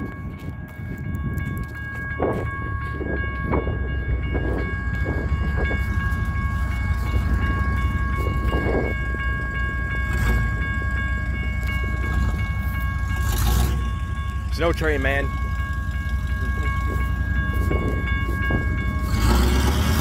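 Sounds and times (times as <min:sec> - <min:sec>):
crossing bell ringing: 0:00.0 - 0:20.0.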